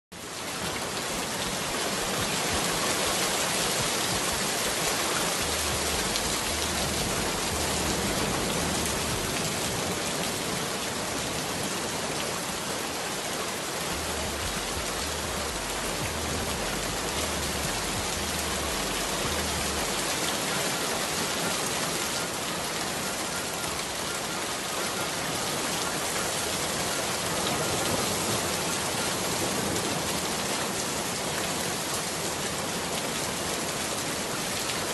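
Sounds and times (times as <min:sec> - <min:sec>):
heavy rain hissing: 0:00.2 - 0:34.9.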